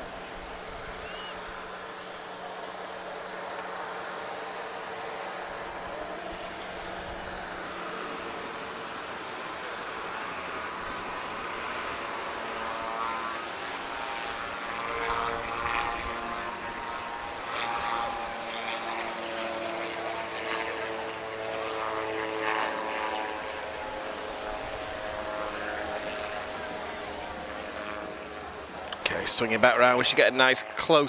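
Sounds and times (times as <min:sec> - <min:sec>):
autogyro engine and propeller droning: 0:00.0 - 0:31.0.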